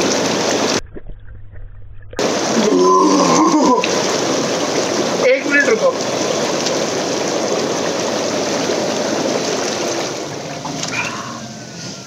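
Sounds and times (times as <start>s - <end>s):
air-bubble jets churning water: 0.0s - 5.2s, 5.8s - 12.0s.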